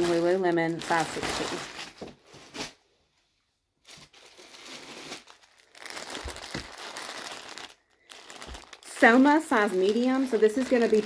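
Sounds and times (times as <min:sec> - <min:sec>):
plastic garment bag crinkling: 0:00.0 - 0:02.8, 0:03.8 - 0:11.0.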